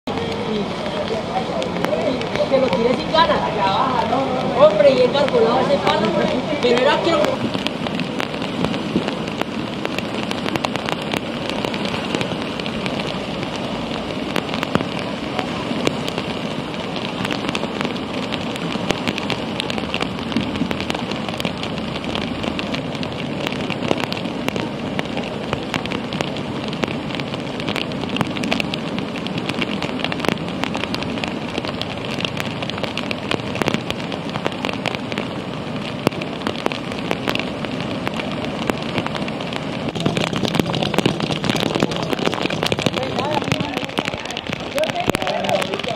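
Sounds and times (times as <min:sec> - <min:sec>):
rain: 0:00.0 - 0:45.9
rushing flooded river: 0:00.0 - 0:45.9.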